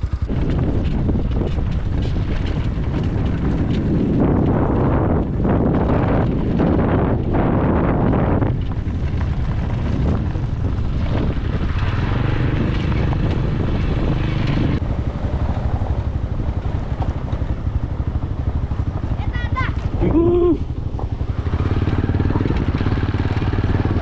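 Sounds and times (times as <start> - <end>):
motorcycle engine throbbing: 0.0 - 24.0.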